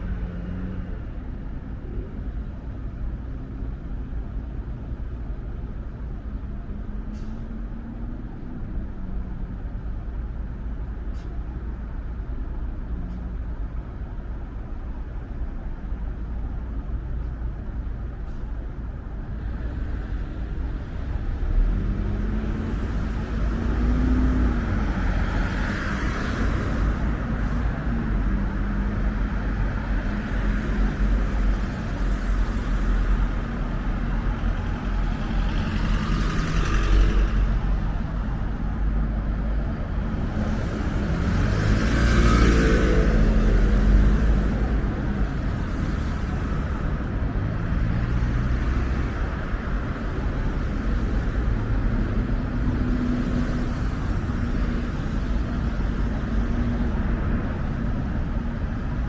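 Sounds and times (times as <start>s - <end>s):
low rumble of traffic: 0.0s - 59.0s
vehicles passing: 0.0s - 59.0s.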